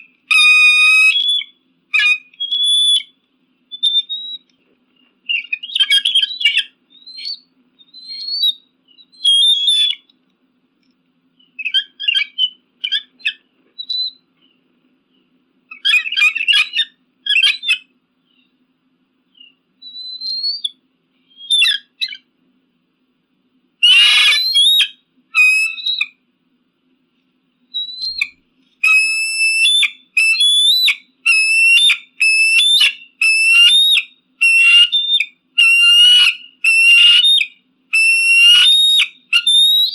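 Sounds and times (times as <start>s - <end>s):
eagle piercing calls: 0.0s - 4.5s, 5.2s - 10.1s, 11.4s - 14.6s, 15.7s - 18.6s, 19.4s - 22.3s, 23.8s - 26.2s, 27.7s - 39.9s.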